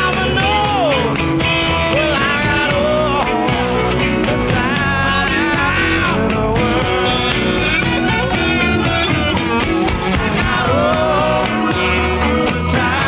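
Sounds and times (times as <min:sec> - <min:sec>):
lead line bending in pitch: 0:00.0 - 0:13.0
rock band playing: 0:00.0 - 0:13.0.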